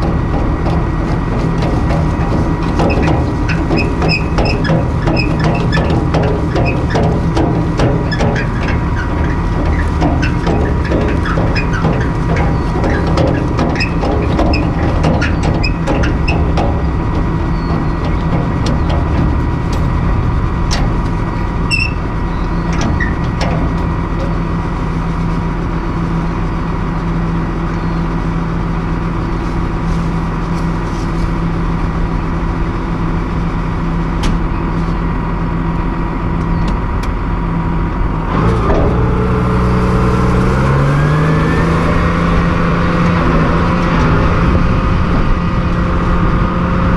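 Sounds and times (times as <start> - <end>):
tractor diesel engine: 0.0 - 46.9.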